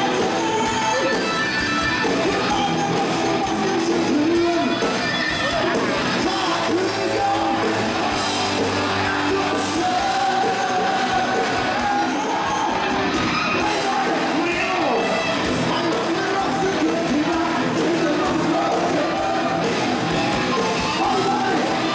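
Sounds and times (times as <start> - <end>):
person singing into a microphone: 0.0 - 19.9, 20.5 - 21.9
rock band playing: 0.0 - 21.9.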